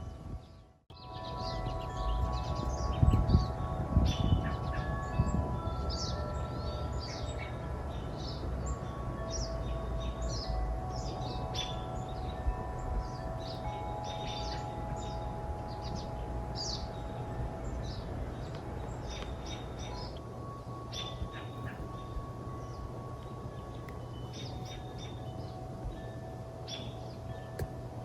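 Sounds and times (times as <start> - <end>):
long held tones: 0.0 - 28.0
songbirds singing: 0.0 - 28.0
steady low hum: 0.0 - 28.0.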